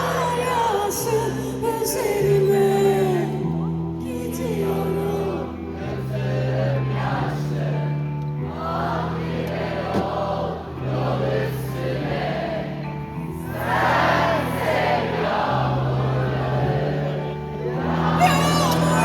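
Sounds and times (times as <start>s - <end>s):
crowd singing along: 0.0s - 19.0s.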